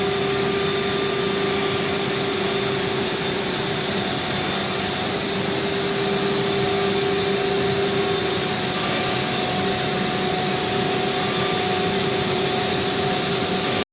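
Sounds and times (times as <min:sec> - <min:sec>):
cnc router whirring: 0:00.0 - 0:13.8
steady hum tone: 0:00.0 - 0:13.8.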